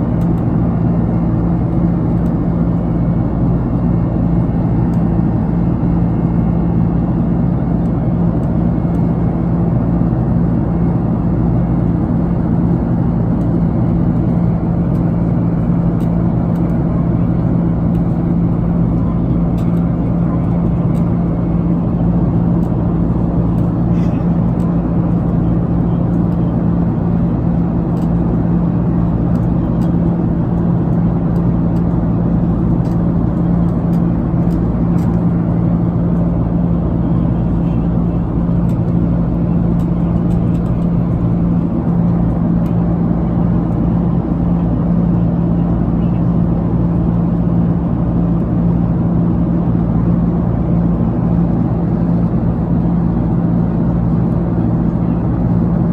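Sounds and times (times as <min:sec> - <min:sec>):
airliner cabin engine rumble: 0:00.0 - 0:55.9.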